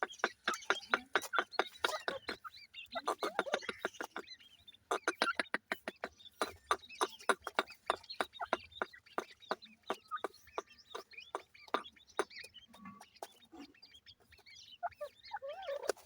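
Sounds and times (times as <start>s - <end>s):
bird chicks chirping: 0.0s - 16.0s.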